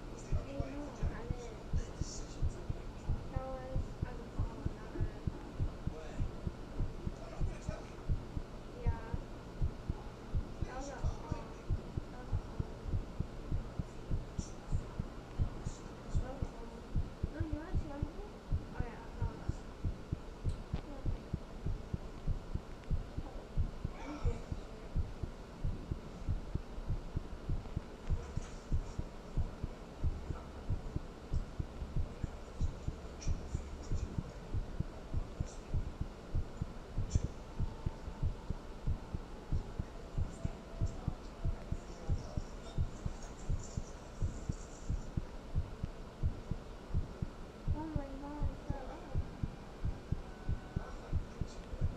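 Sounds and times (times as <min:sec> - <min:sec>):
human heartbeat: 0:00.3 - 0:51.9.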